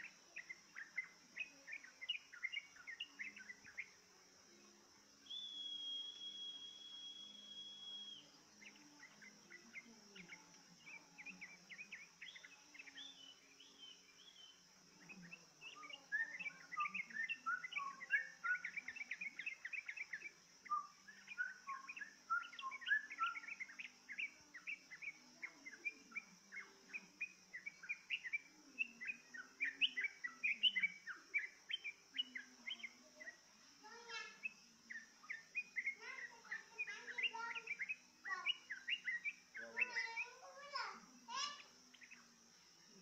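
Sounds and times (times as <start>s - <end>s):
bulbuls chattering: 0.0s - 5.6s, 8.1s - 43.0s
steady high-pitched hiss: 0.0s - 43.0s.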